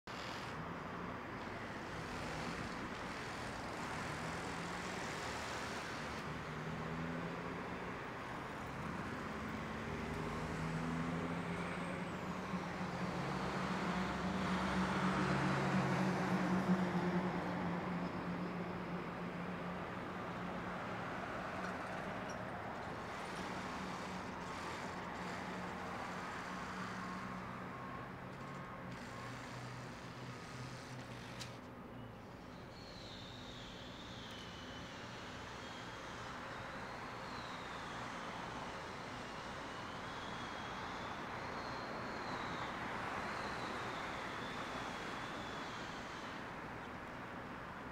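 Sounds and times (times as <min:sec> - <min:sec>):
diesel engine low drone: 0:00.5 - 0:47.9.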